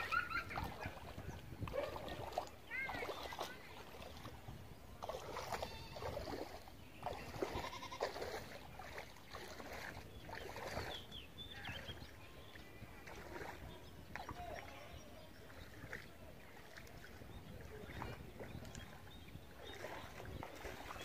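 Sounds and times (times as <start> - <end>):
footsteps wading through water: 0.0 - 21.0.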